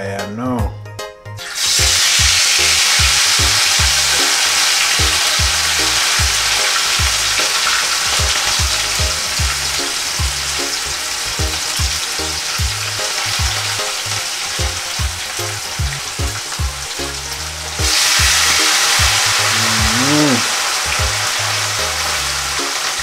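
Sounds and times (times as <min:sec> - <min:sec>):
background music with steady beat: 0:00.0 - 0:23.0
fish sizzling in hot oil: 0:01.4 - 0:23.0.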